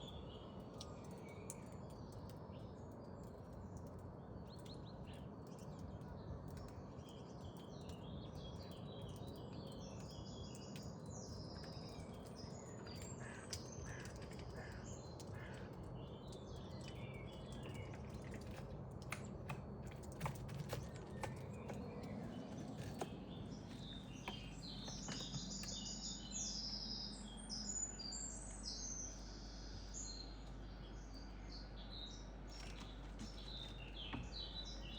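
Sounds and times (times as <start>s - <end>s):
birds chirping: 4.5s - 34.9s.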